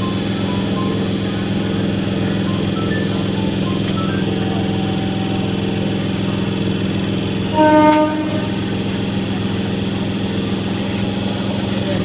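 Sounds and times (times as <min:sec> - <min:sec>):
electric train running: 0:00.0 - 0:12.0
train horn blast: 0:00.0 - 0:12.0.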